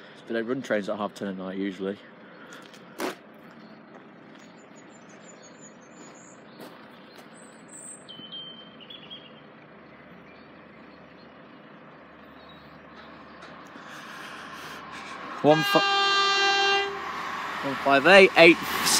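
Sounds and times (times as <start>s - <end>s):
birds chirping: 0.0s - 18.9s
faint low train hum: 0.0s - 18.9s.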